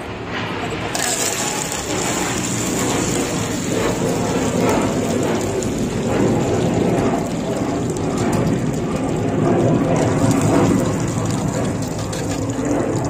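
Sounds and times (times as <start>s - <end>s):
hot oil sizzling in a pot: 0.9s - 13.0s
seeds spluttering: 0.9s - 13.0s.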